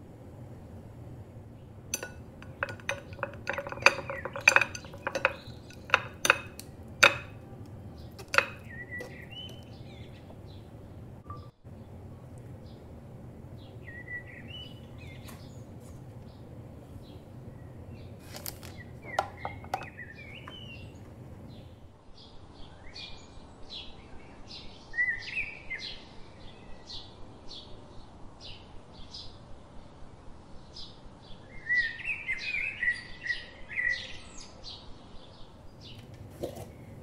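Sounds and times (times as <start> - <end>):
small birds chirping and twittering: 1.6 - 29.5, 30.5 - 37.0.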